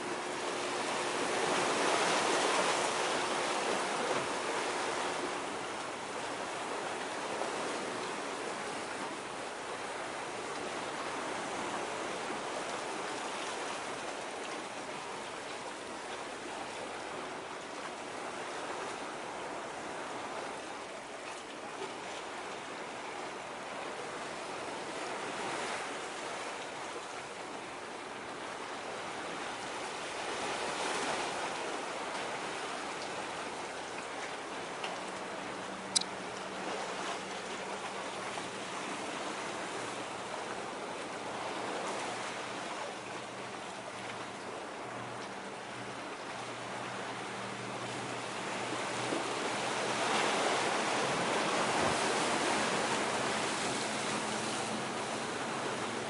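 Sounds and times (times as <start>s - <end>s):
waves washing against breakwater: 0.0s - 56.0s
wind: 0.0s - 56.0s.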